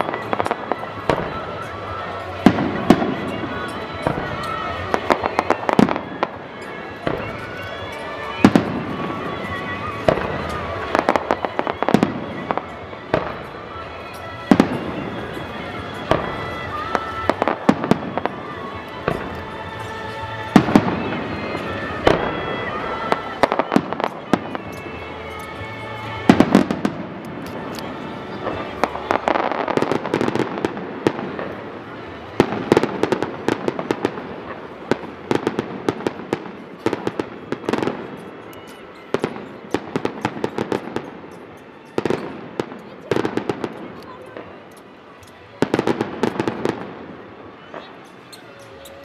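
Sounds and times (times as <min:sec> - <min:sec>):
crackling fireworks bangs: 0:00.0 - 0:44.6, 0:45.3 - 0:49.0
fireworks bursting with bangs: 0:00.0 - 0:44.6, 0:45.4 - 0:49.0
music: 0:00.0 - 0:49.0.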